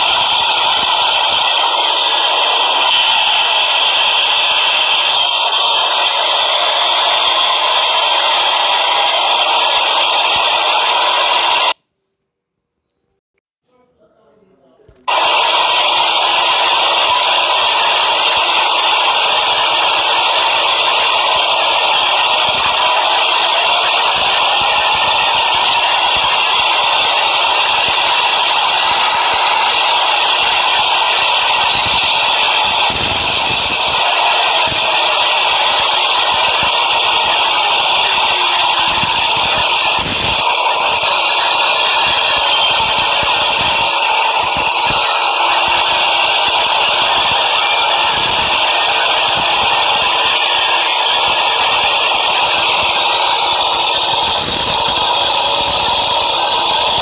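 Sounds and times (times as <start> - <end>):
subway train running: 0.0 - 11.8, 15.1 - 57.0.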